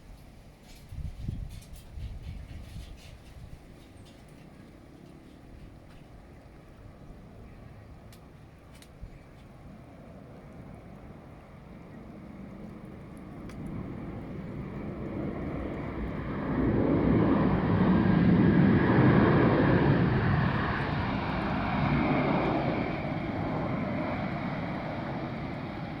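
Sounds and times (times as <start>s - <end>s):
airliner engine rumble: 0.0s - 26.0s.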